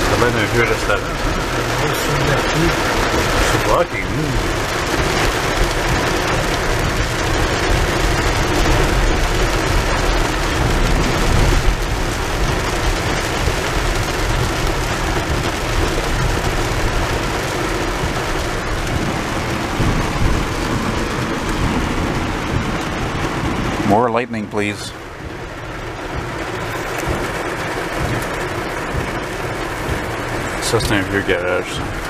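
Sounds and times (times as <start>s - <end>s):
rain on car roof and windows: 0.0s - 32.0s
tyres hissing on wet road: 0.0s - 32.0s.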